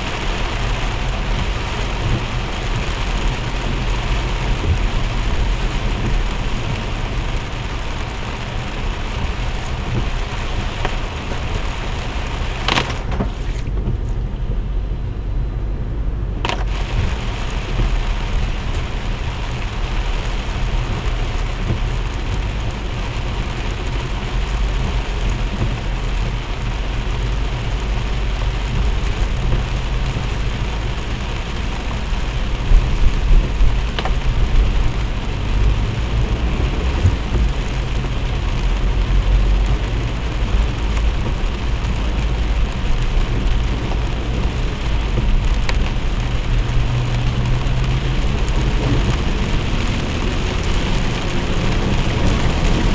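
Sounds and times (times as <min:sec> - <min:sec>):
heavy rain falling: 0:00.0 - 0:14.6, 0:16.4 - 0:52.9
low rumble of vehicle engines: 0:00.0 - 0:52.9.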